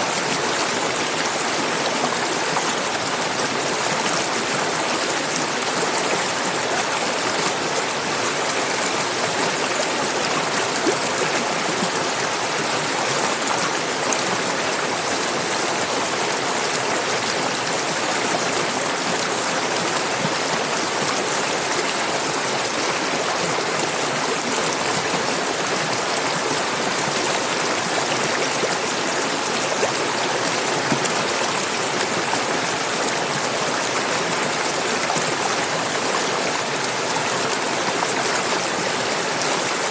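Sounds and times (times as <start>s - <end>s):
river running over rocks: 0.0s - 39.9s.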